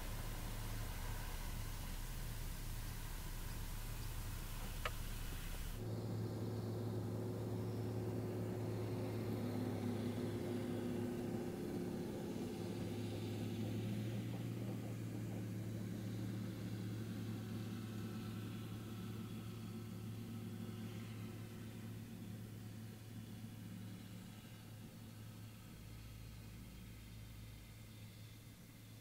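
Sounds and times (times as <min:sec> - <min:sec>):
distant electric propeller hum: 0:00.0 - 0:28.9.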